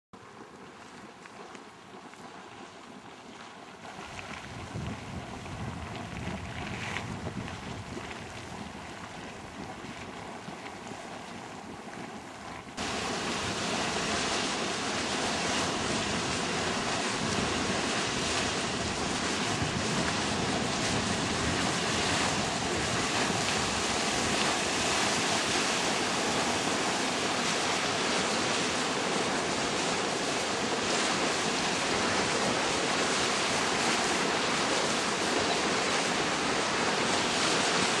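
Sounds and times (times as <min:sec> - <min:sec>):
geyser hissing water and steam: 0:00.2 - 0:38.0.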